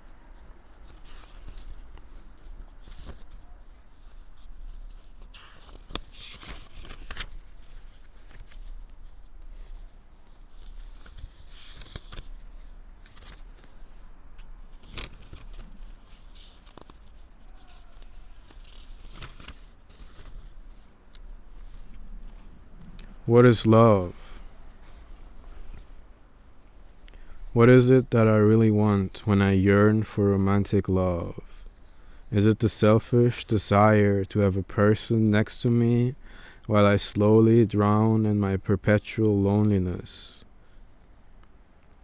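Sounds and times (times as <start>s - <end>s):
rustling and scraping handling noises: 0.0s - 34.0s, 40.5s - 42.0s.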